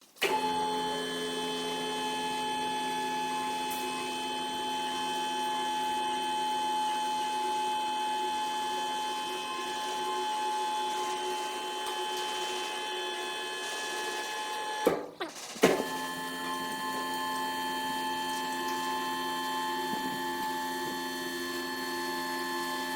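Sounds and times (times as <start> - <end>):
press machine whine: 0.2 - 15.0, 15.6 - 22.9.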